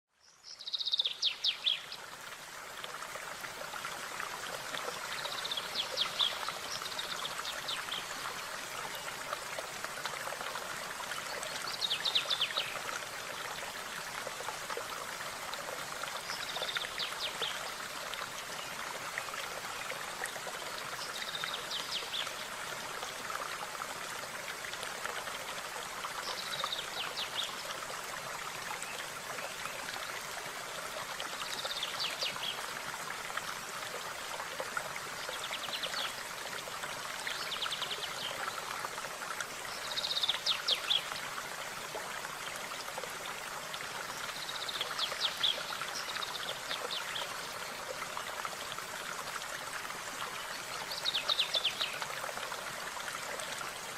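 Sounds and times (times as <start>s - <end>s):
stream babbling: 0.2s - 53.9s.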